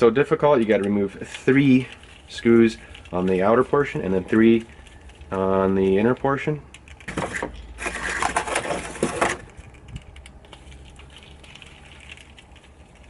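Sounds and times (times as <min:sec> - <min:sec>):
metal parts scraping and rattling: 0:00.7 - 0:13.0.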